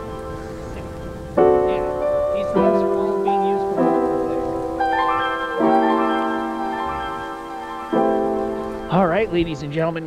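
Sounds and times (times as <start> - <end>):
slow keyboard chords: 0.0 - 10.0.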